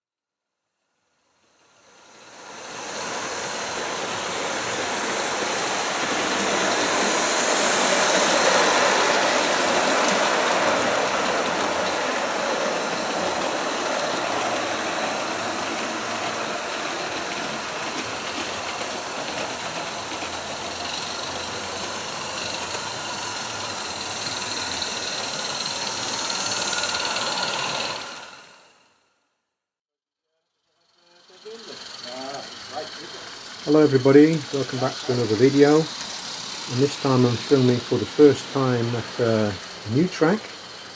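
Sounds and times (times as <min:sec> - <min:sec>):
model steam locomotive running: 0:01.4 - 0:28.9, 0:30.6 - 0:40.9.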